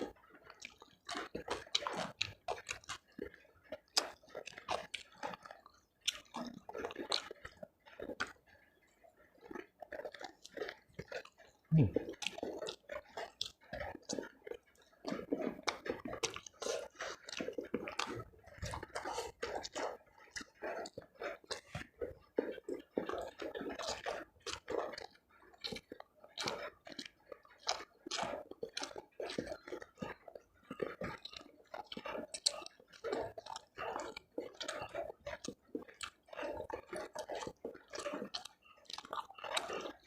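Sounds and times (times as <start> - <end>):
chewing food: 0.0 - 40.0.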